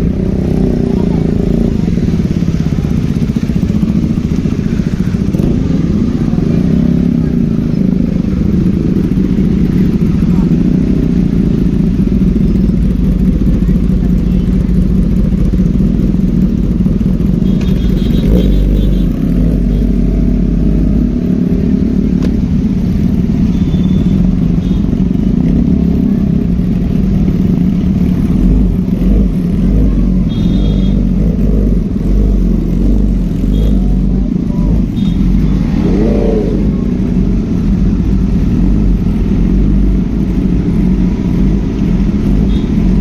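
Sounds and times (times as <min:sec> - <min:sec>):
motorcycle engines rumbling: 0:00.0 - 0:43.0.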